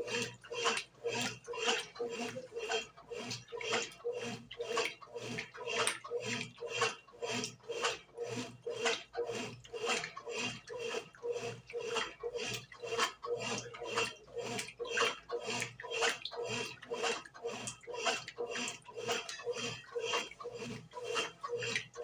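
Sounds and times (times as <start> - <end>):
washing machine swishing laundry: 0.0 - 22.0.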